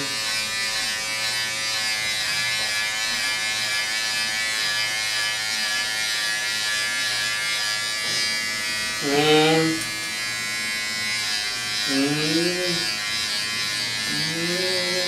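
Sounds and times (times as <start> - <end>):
electric beard trimmer buzzing: 0.0 - 15.0.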